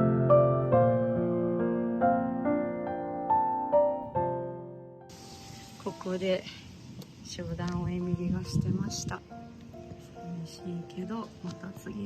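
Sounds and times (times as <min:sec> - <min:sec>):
soft piano music: 0:00.0 - 0:06.6, 0:07.2 - 0:12.0.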